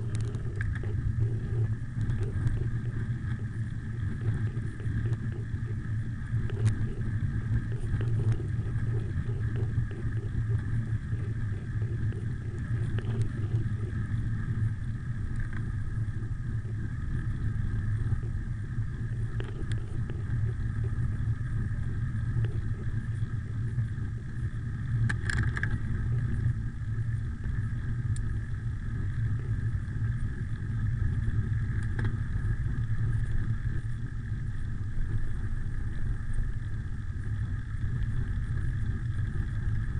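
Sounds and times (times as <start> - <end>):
bicycle tyres rolling on road: 0.0 - 39.9
wind rumbling over microphone: 0.0 - 39.9.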